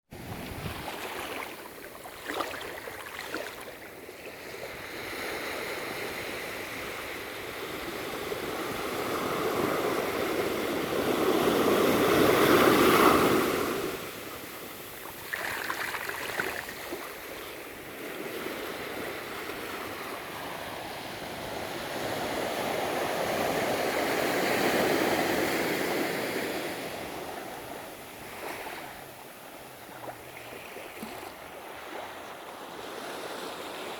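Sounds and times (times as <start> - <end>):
ocean waves breaking: 0.1 - 5.4, 8.3 - 33.9.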